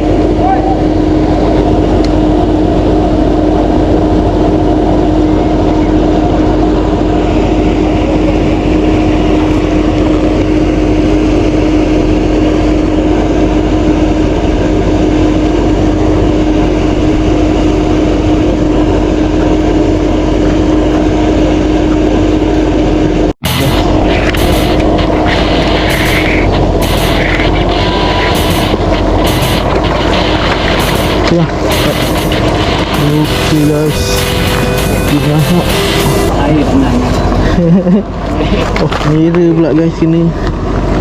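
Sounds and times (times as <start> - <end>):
dense rushing noise: 0.0 - 41.0
motor hum: 0.0 - 41.0.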